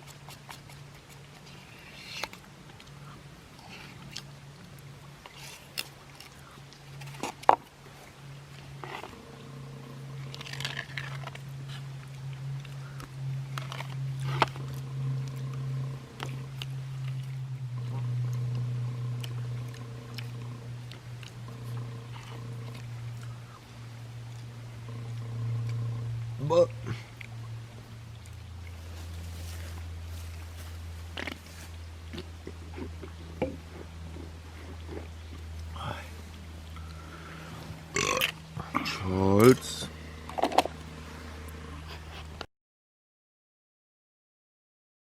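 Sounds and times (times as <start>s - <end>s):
chewing and eating: 0.0s - 42.5s
low droning hum: 0.0s - 42.5s.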